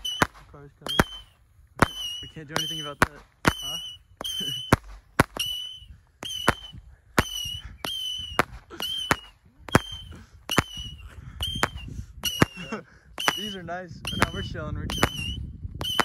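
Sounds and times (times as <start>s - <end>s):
whistling firework shots: 0.0s - 16.0s.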